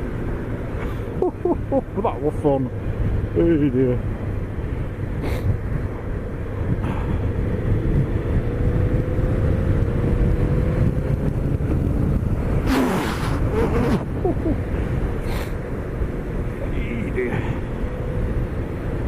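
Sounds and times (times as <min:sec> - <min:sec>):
wind buffeting microphone: 0:02.3 - 0:19.0.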